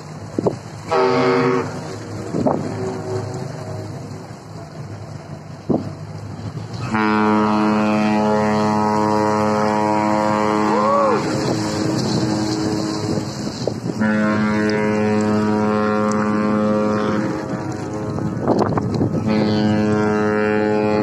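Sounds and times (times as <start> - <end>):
ship's horn blasts: 0.8 - 21.0.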